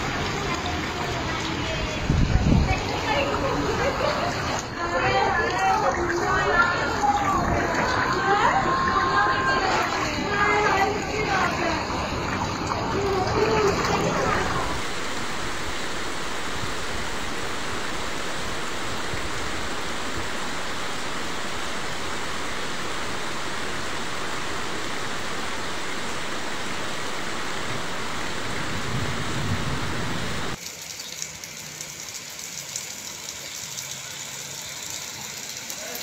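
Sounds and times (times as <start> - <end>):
heavy rain pouring: 0.0 - 30.6.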